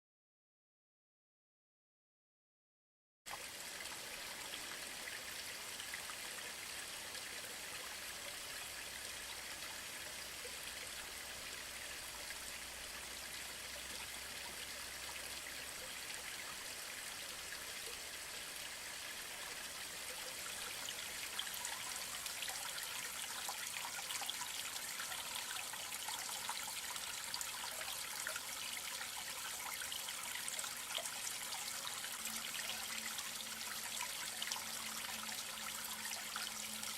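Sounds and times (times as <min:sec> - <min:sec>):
stream water running: 0:03.3 - 0:36.9.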